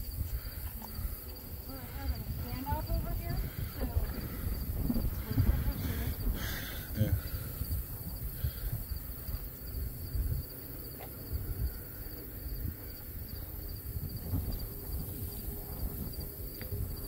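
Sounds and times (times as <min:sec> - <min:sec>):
insects trilling: 0:00.0 - 0:17.0
wind buffeting microphone: 0:00.0 - 0:17.0.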